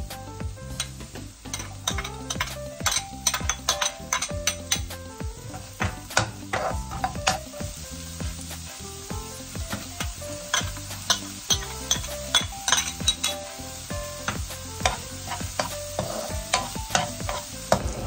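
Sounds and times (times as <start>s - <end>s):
food sizzling in frying pan: 0.0s - 18.0s
utensils clinking against pan: 0.7s - 7.6s, 9.6s - 18.0s.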